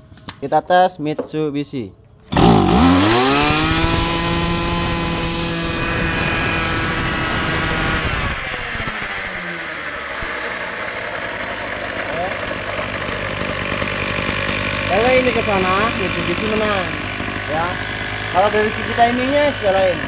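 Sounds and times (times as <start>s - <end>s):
brush cutter engine running: 2.3s - 20.0s.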